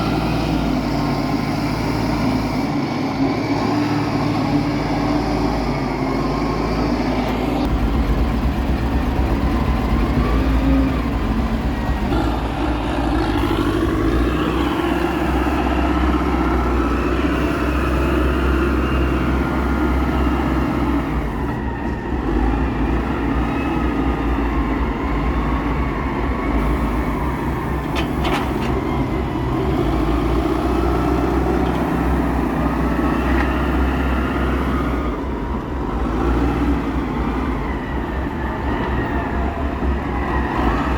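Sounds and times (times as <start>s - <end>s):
diesel engine rumble with whine: 0.0s - 40.9s.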